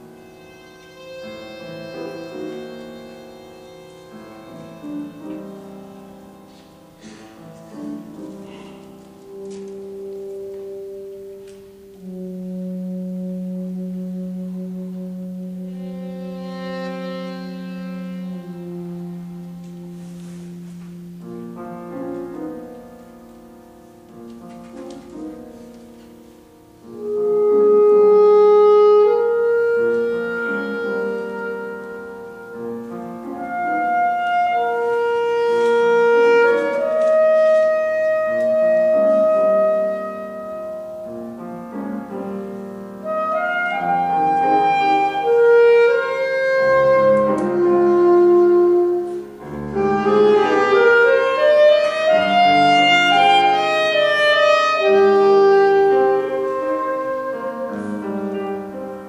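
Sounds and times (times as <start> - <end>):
violin: 0.0 - 23.0, 27.8 - 59.0
saxophone long held notes: 0.0 - 23.5, 24.2 - 59.0
piano: 0.0 - 59.0.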